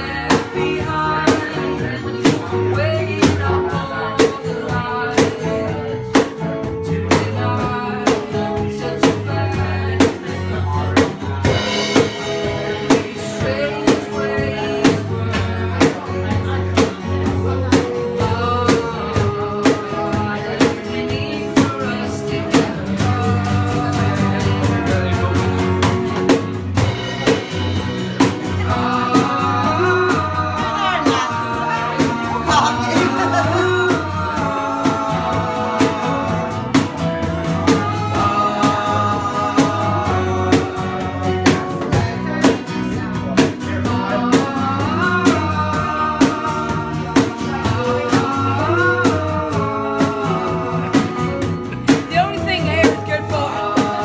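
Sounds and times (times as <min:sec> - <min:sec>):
guitar: 0:00.0 - 0:54.0
person singing: 0:00.0 - 0:54.0
steady drum beat: 0:00.0 - 0:54.0.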